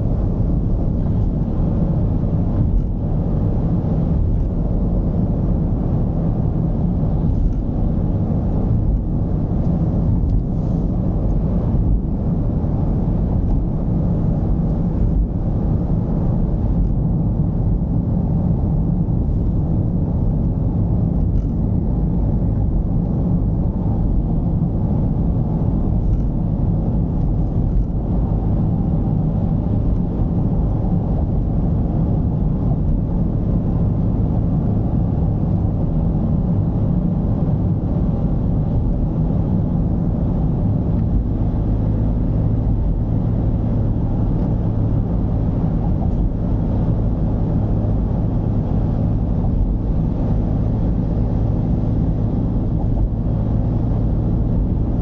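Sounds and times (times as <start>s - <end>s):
diesel engine driving: 0.0s - 55.0s
road noise: 0.0s - 55.0s.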